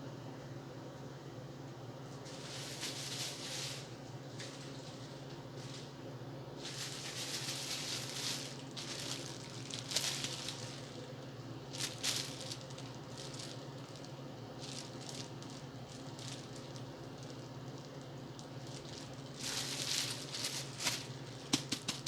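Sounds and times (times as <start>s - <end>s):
steady low hum: 0.0s - 22.0s
food wrappers rustling: 2.2s - 6.0s, 6.6s - 22.0s.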